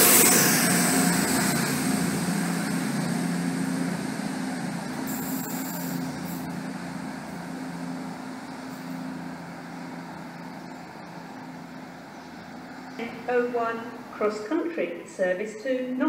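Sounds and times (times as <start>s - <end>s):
diesel train engines humming: 0.0s - 16.0s.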